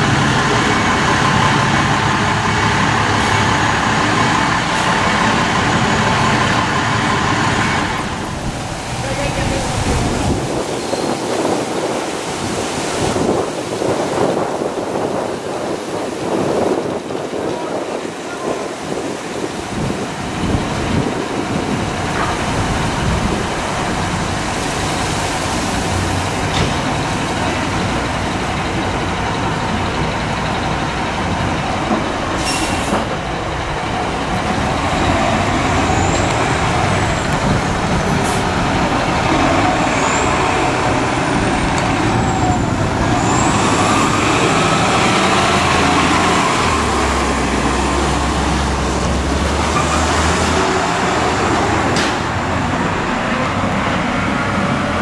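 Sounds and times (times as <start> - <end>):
deep engine rumble: 0.0 - 10.7, 12.3 - 49.7
diesel engine noise: 0.0 - 55.0.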